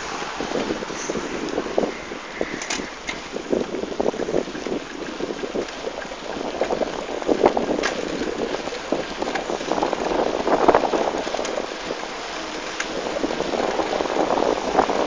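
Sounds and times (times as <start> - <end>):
bike tyres rolling on asphalt: 0.0 - 15.0
crackling and rattling: 0.0 - 15.0
wind buffeting microphone: 0.0 - 15.0.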